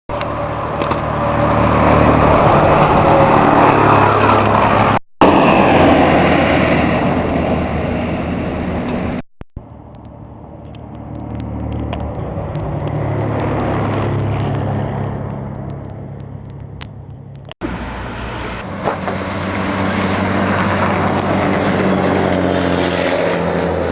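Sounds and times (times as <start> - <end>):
diesel buses passing: 0.1 - 23.9.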